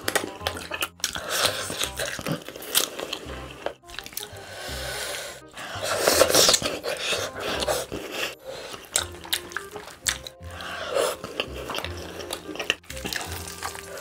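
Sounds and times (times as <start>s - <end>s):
hands tearing roast chicken: 0.0s - 4.4s, 5.7s - 14.0s
soft background music: 0.0s - 14.0s
wet smacking and chewing: 0.0s - 14.0s.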